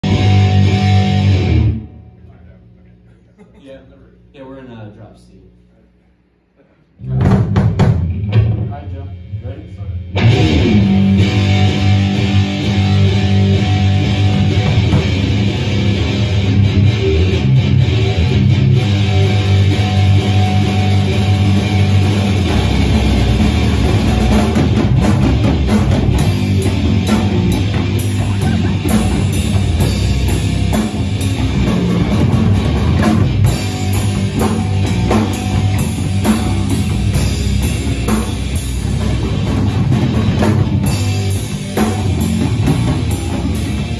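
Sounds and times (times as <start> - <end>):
drum kit: 0.0 - 2.0, 7.0 - 43.9
electric guitar: 0.0 - 2.1, 7.0 - 43.9.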